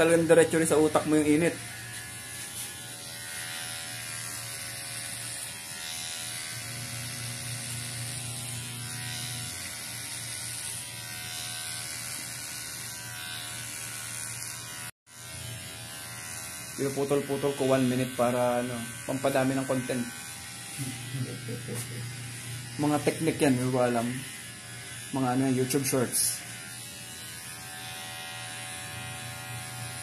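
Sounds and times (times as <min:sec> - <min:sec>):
electric hair clipper buzzing: 0:00.0 - 0:30.0.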